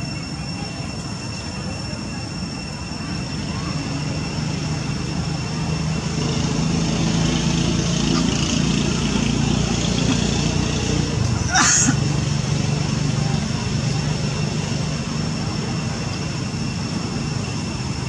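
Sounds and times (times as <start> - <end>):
low motor drone: 3.2 - 18.0.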